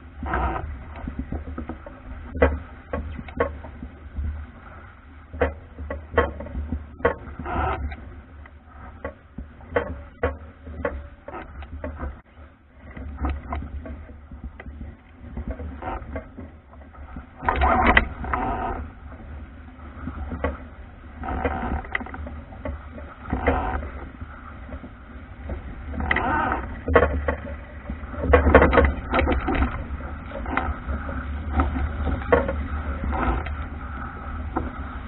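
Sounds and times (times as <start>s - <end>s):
water rushing along hull: 0.0s - 35.0s
wind rumble on microphone: 0.0s - 35.0s
sharp clicks and knocks: 0.2s - 4.4s, 5.2s - 33.7s.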